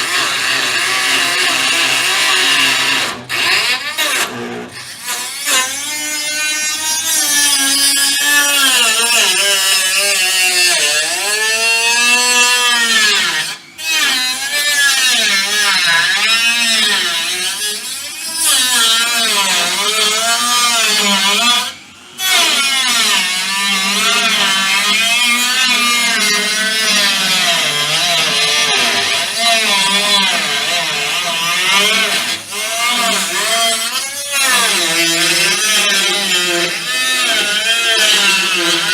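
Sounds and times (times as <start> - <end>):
handheld power tool running: 0.0 - 13.6, 14.4 - 38.9.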